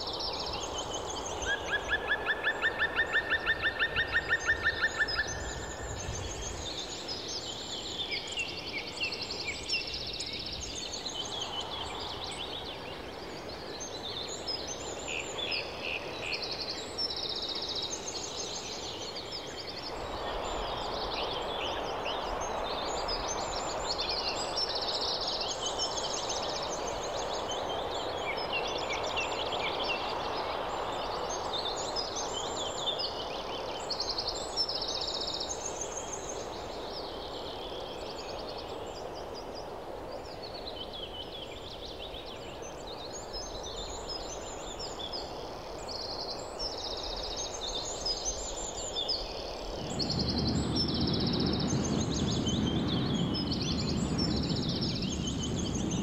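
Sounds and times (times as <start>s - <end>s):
small songbirds singing: 0.0s - 56.0s.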